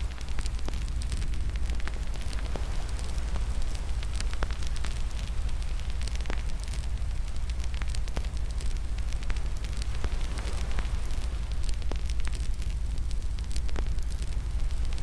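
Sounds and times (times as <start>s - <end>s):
fire pops and snaps: 0.0s - 15.0s
fireplace fire crackling: 0.0s - 15.0s.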